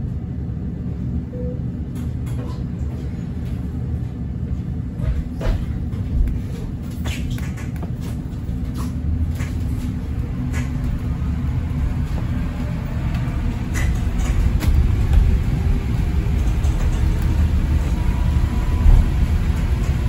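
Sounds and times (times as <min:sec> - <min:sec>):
bus tyres rumbling: 0:01.9 - 0:20.0.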